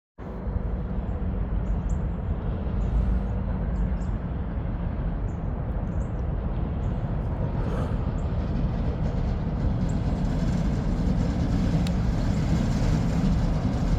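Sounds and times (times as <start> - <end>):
diesel locomotives rumbling: 0.2 - 13.9.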